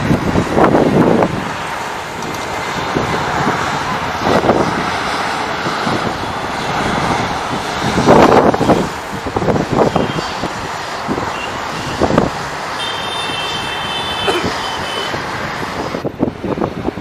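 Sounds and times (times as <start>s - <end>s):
airliner engine rush: 0.0s - 17.0s.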